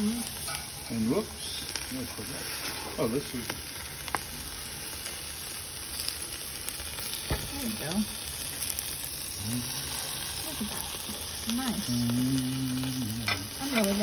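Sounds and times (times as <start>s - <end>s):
steaks sizzling on grill: 0.0s - 14.0s.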